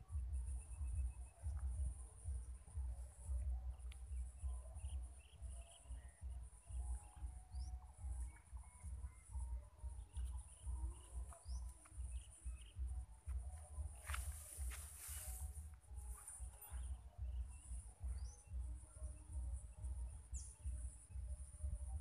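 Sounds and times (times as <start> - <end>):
low rumble on microphone: 0.0 - 22.0.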